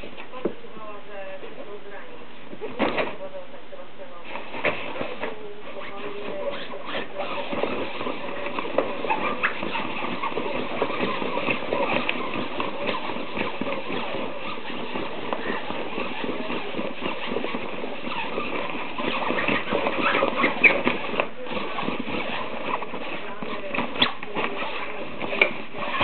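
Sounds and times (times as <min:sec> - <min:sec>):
cat claws scratching cloth: 0:04.2 - 0:26.0.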